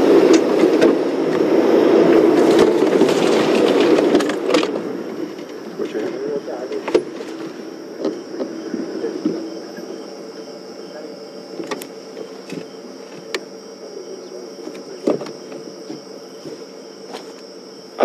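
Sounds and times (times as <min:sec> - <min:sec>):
crickets trilling: 0:00.0 - 0:18.0
low hum: 0:00.0 - 0:18.0.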